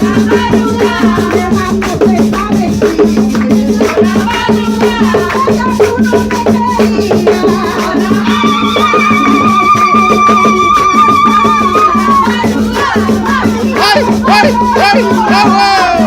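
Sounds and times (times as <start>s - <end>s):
rattling percussion: 0.0s - 16.0s.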